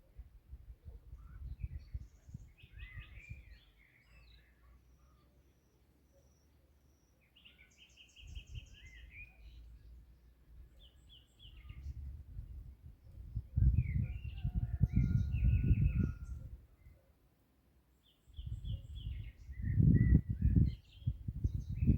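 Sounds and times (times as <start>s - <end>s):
songbirds chirping: 0.0s - 21.9s.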